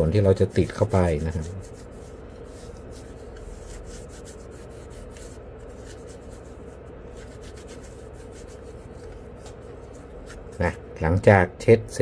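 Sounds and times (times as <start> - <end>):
cotton pad wiping plastic grip: 0.0 - 10.8
low steady hum: 0.0 - 12.0.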